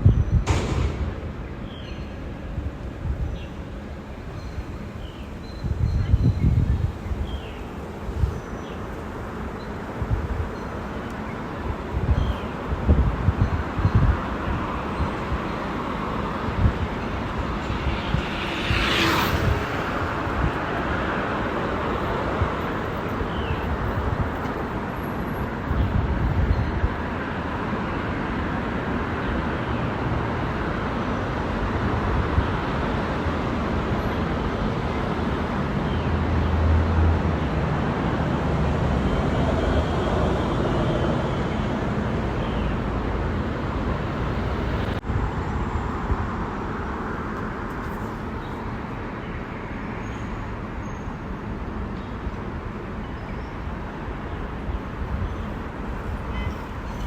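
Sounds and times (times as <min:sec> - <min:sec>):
passing motor vehicles rumble: 0:00.0 - 0:57.0.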